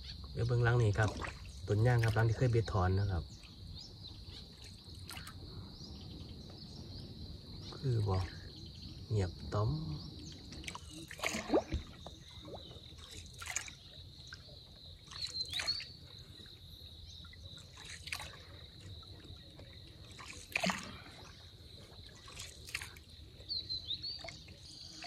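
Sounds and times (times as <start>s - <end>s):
water splashes and trickles: 0.0s - 25.0s.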